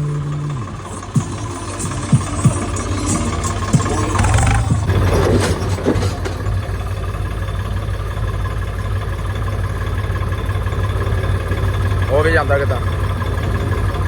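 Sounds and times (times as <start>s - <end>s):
diesel tractor engine running: 0.0s - 14.0s
rattling and clatter: 0.0s - 14.0s.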